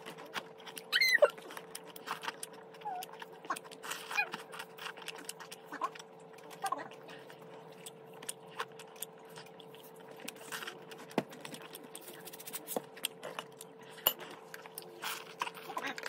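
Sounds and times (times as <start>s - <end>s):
chewing with mouth clicks: 0.0s - 16.0s
faint hum: 0.0s - 16.0s.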